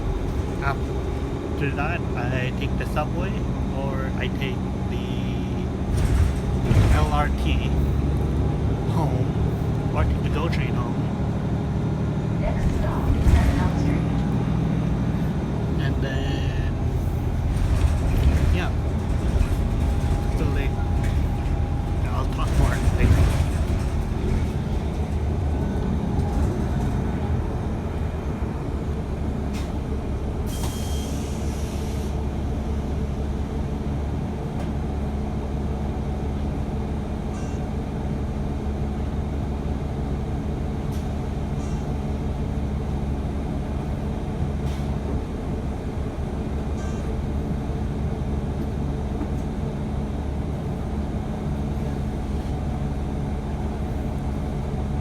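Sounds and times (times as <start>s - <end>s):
bus engine droning: 0.0s - 55.0s.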